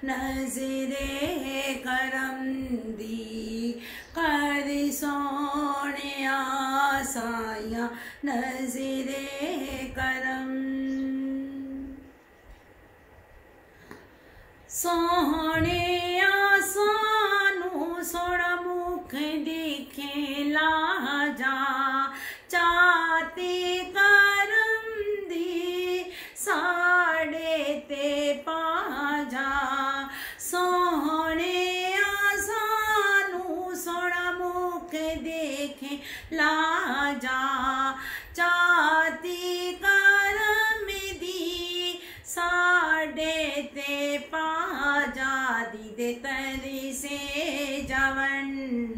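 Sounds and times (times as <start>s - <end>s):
woman singing unaccompanied: 0.0s - 12.1s, 14.7s - 48.9s.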